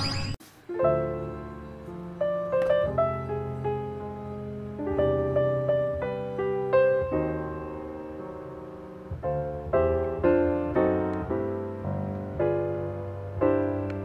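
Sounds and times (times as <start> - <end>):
piano notes and chords: 0.0 - 14.0.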